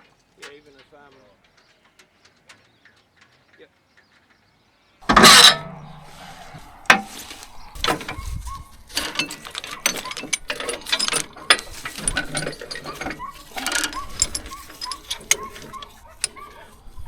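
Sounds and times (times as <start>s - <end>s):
metal clicks and clanks: 0.0s - 4.4s, 5.0s - 17.0s.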